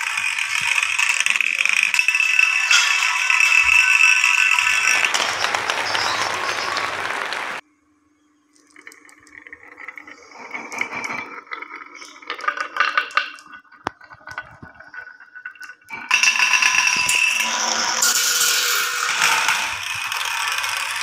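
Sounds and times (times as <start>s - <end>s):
marbles clicking on wooden track: 0.0s - 7.6s, 8.6s - 21.0s.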